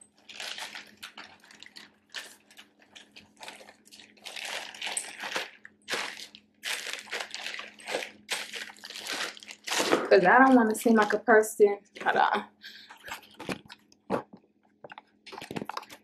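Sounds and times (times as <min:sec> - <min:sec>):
plastic bag rustling: 0:00.0 - 0:11.3, 0:11.9 - 0:14.3, 0:15.2 - 0:16.0.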